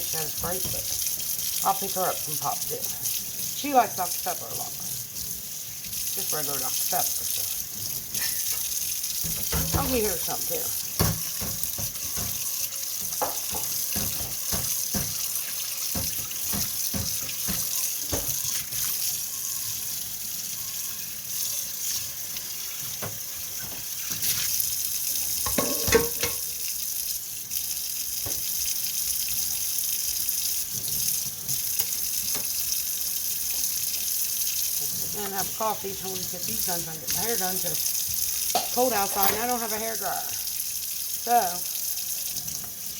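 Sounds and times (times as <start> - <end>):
tap water running into sink: 0.0 - 42.9.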